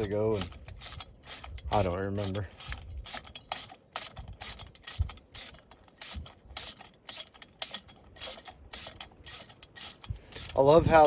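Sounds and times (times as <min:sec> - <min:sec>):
ratchet wrench clicking: 0:00.0 - 0:10.7.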